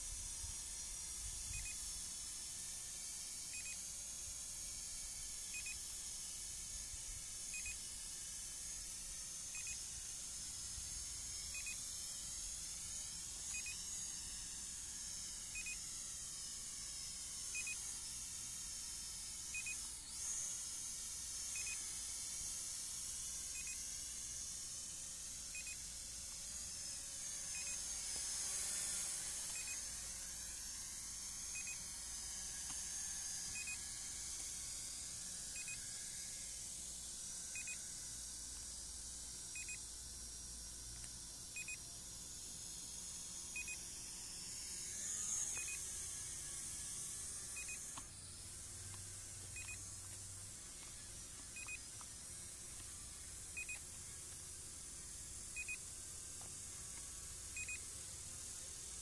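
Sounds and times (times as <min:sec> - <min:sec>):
steady electronic hiss: 0:00.0 - 0:59.0.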